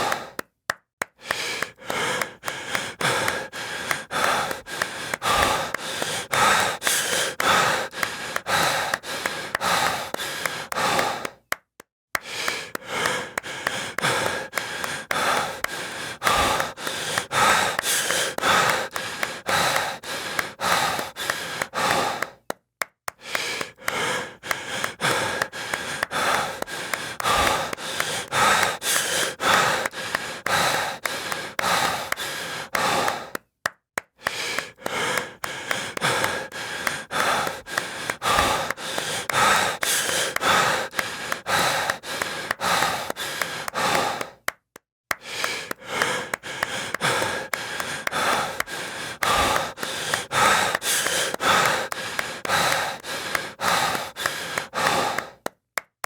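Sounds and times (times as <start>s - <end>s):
heavy breathing: 0.0s - 0.5s, 1.2s - 11.5s, 12.2s - 33.5s, 34.2s - 55.6s
hand claps: 0.0s - 56.0s.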